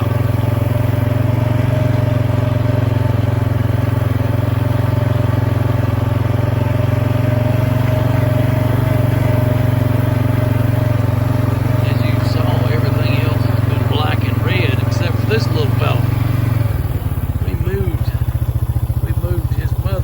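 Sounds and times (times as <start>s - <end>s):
thin steady whine: 0.0s - 20.0s
tractor diesel engine droning: 0.0s - 20.0s.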